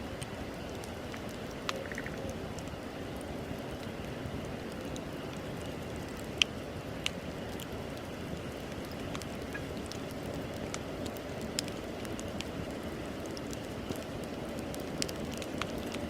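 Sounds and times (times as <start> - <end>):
bonfire flames rushing: 0.0 - 16.0
burning wood crackling and popping: 0.0 - 16.0.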